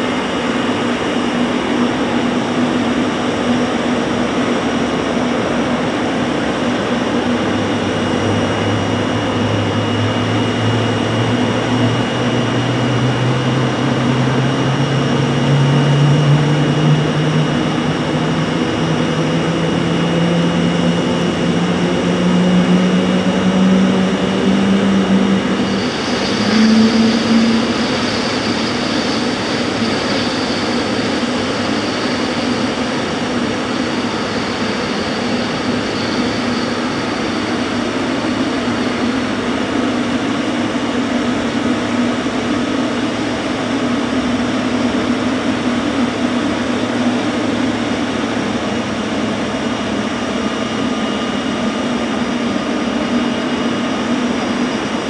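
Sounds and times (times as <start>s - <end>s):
high jet engine whine: 0.0s - 55.0s
jet engine spooling up: 0.0s - 55.0s.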